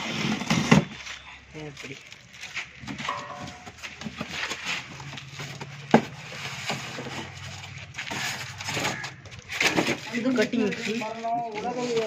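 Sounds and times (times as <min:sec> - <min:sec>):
polystyrene foam packing rustling: 0:00.0 - 0:12.0.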